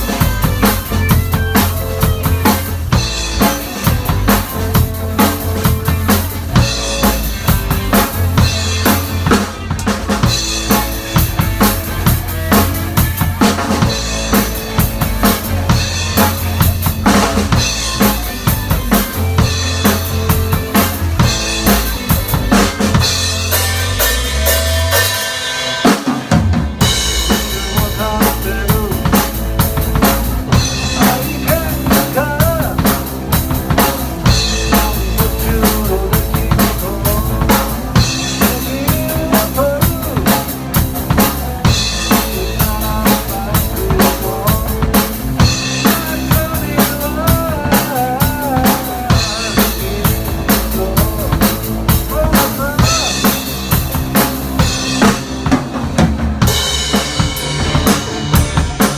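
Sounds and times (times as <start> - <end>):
band music: 0.0 - 58.9
drum kit steady beat: 0.0 - 58.9.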